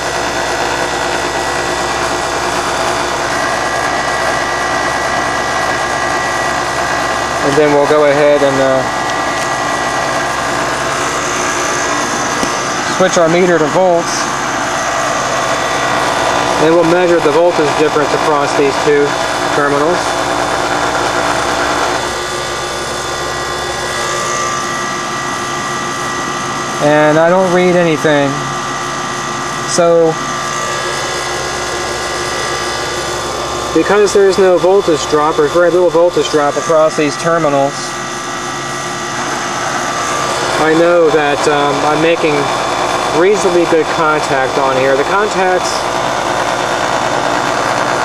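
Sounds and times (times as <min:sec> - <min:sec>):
compressor hum: 0:00.0 - 0:48.0
heat pump unit whirring: 0:00.0 - 0:48.0
whining tones: 0:00.0 - 0:48.0.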